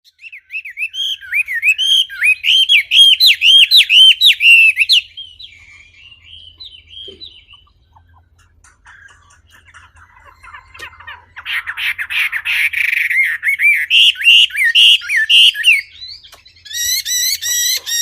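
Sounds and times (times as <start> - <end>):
bird twittering: 0.1 - 18.0.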